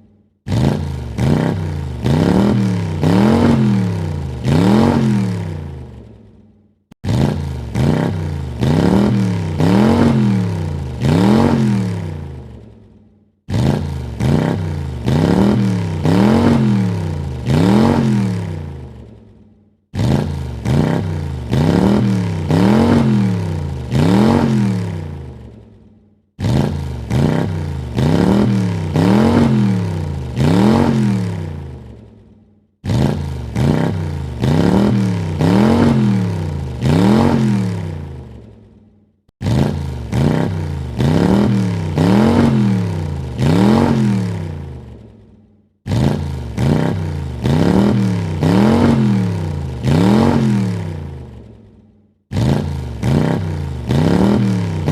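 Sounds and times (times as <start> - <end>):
car engine revving: 0.5 - 6.1, 7.0 - 12.7, 13.5 - 19.3, 19.9 - 25.6, 26.4 - 32.0, 32.8 - 38.6, 39.4 - 45.1, 45.9 - 51.5, 52.3 - 54.9.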